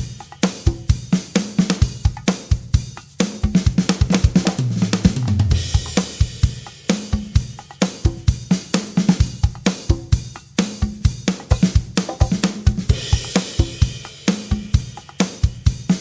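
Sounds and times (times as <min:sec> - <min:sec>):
drum fill on toms: 0:00.0 - 0:16.0
drum kit groove: 0:00.0 - 0:16.0.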